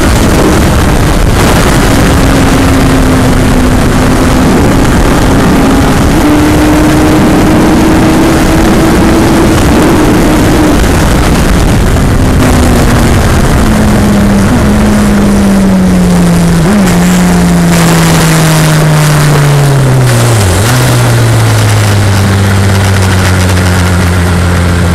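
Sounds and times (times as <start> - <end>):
heavy wind rush: 0.0 - 24.9
motorcycle engine revving and idling: 0.0 - 24.9.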